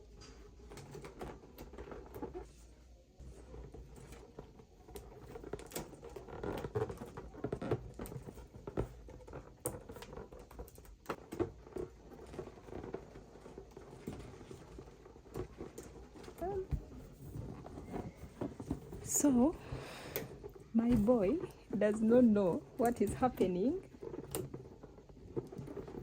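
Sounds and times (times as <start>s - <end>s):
objects being handled: 0.0s - 26.0s.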